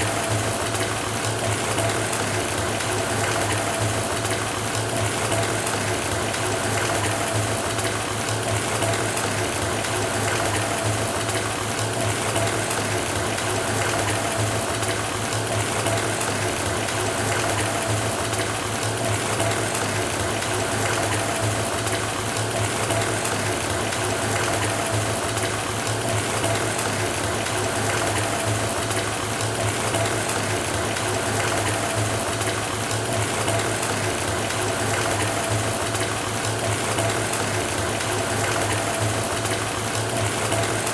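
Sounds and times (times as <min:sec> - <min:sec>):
faucet water pouring into tub: 0:00.0 - 0:40.9.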